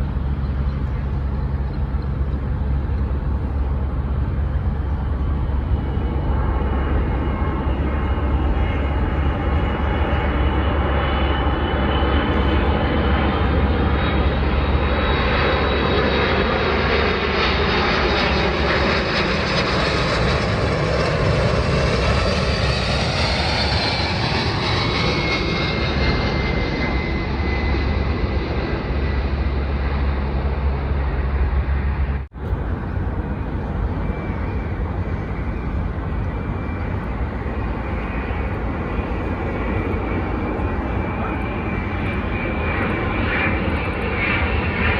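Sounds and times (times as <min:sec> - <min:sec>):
jet airliner passing overhead: 0:00.0 - 0:44.9
jet engine whine falling in pitch: 0:00.0 - 0:44.9.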